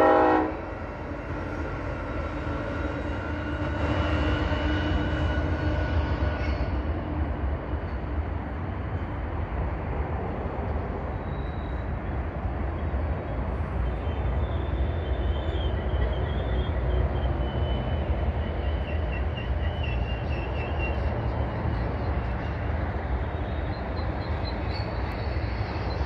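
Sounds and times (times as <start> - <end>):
diesel locomotive engine hum: 0.0 - 26.0
freight cars rumbling: 0.0 - 26.0.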